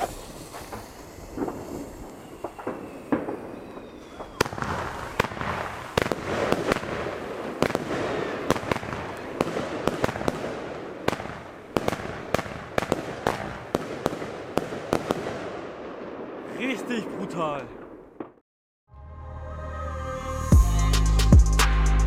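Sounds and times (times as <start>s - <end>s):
firework bangs: 0.0s - 18.4s.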